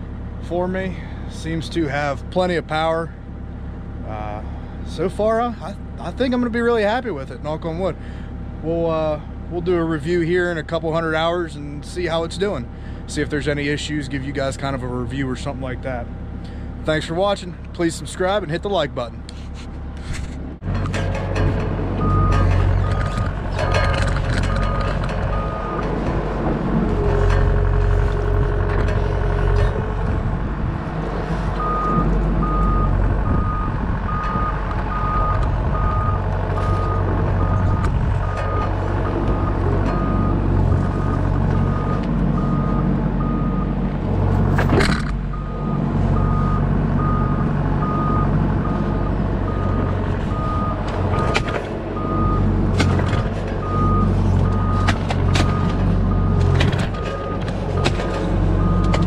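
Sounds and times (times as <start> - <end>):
excavator diesel engine under load: 0.0 - 59.0.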